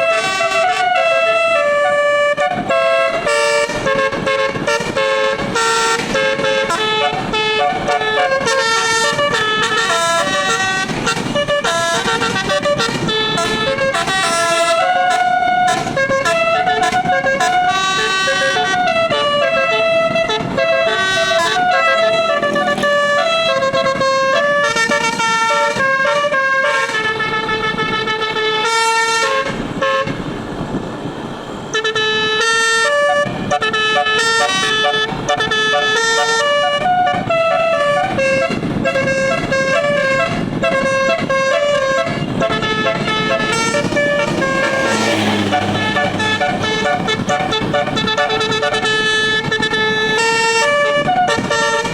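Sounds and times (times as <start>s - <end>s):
musical air horn melody: 0.0s - 30.3s, 31.7s - 51.9s.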